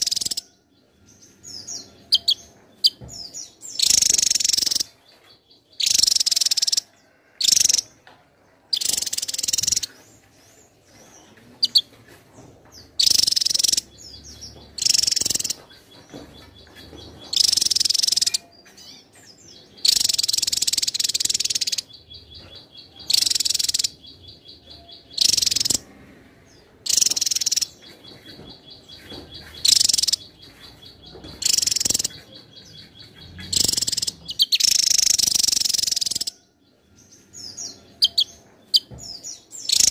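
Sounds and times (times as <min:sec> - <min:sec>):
bird singing in bursts: 0:00.0 - 0:08.0, 0:08.7 - 0:12.0, 0:12.8 - 0:39.9.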